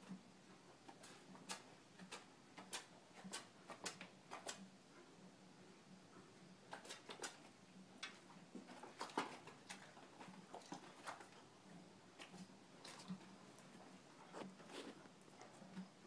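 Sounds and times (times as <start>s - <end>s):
faint steady hum: 0.0s - 16.0s
horse hooves clicking and knocking: 0.8s - 4.7s, 6.6s - 16.0s.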